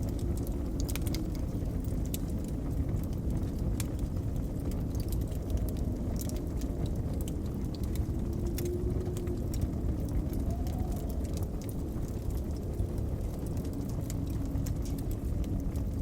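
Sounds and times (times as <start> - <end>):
blizzard wind rumble: 0.0 - 16.0
wood fire crackling: 0.0 - 16.0.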